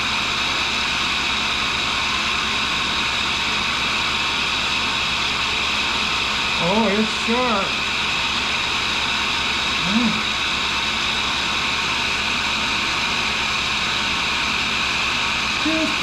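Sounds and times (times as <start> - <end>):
grinder motor whirring hum: 0.0 - 16.0.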